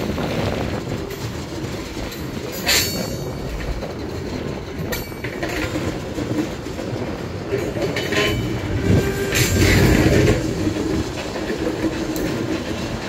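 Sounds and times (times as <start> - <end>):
freight wagons rumbling on rails: 0.0 - 13.0.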